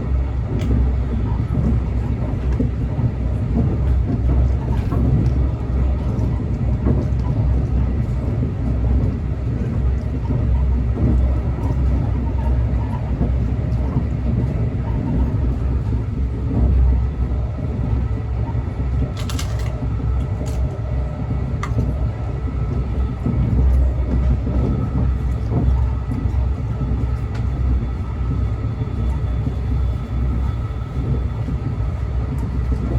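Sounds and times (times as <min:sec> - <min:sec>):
train rumbling: 0:00.0 - 0:32.9.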